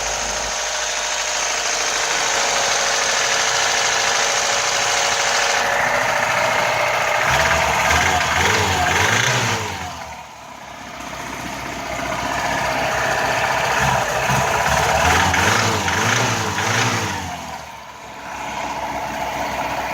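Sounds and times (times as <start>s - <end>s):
knocking car engine revving: 0.0s - 19.9s.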